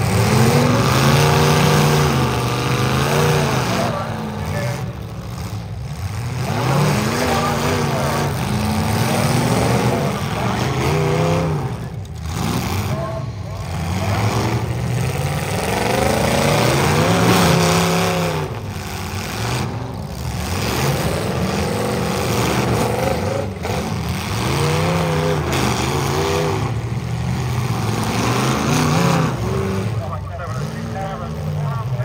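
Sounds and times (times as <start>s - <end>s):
car engines revving hard: 0.0s - 32.0s.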